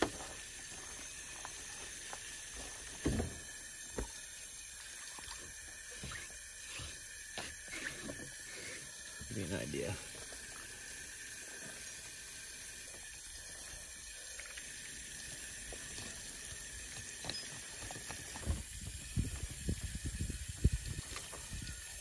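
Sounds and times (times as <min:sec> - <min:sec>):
hose water splashing: 0:00.0 - 0:22.0.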